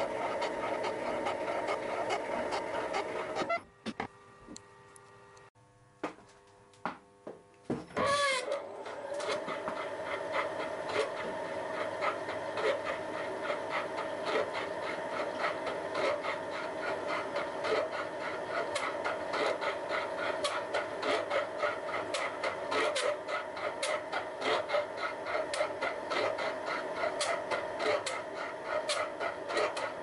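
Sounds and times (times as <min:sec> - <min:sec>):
ticking and scraping of cutting: 0:00.0 - 0:05.2, 0:08.0 - 0:30.0
milling machine hum: 0:00.0 - 0:05.5, 0:07.8 - 0:30.0.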